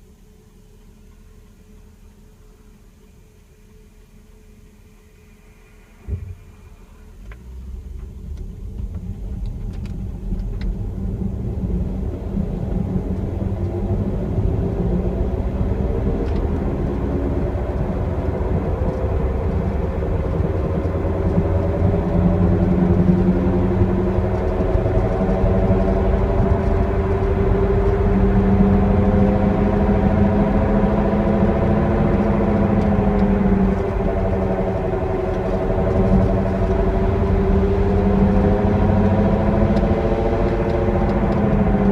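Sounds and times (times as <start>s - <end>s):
car low rumble: 0.0s - 41.9s
rear whining noise: 0.0s - 41.9s.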